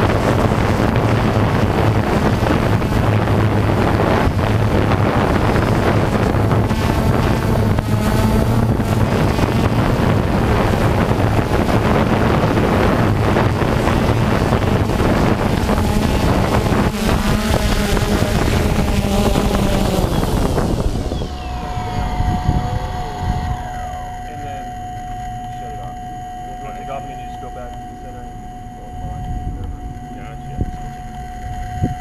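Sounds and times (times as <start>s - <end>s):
drone propellers humming: 0.0s - 32.0s
prop wash buffeting microphone: 0.0s - 32.0s.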